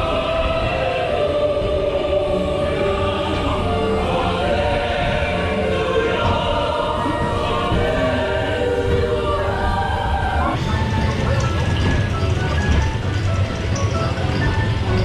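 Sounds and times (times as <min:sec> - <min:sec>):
choral music: 0:00.0 - 0:15.0.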